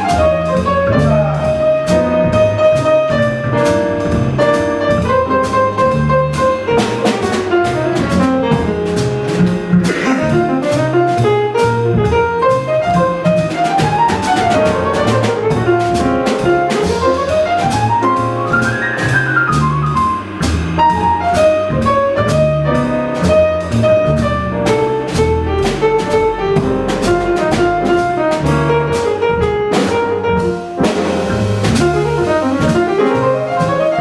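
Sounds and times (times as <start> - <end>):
drum kit with cymbal strokes: 0.0 - 34.0
piano: 0.0 - 34.0
walking upright bass: 0.0 - 34.0.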